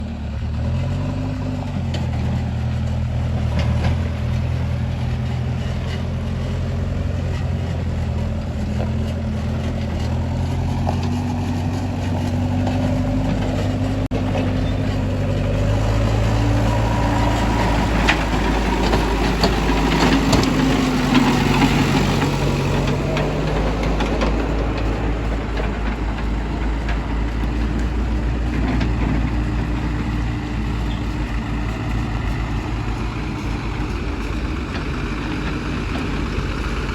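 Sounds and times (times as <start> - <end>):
heavy diesel engines running: 0.0 - 36.9.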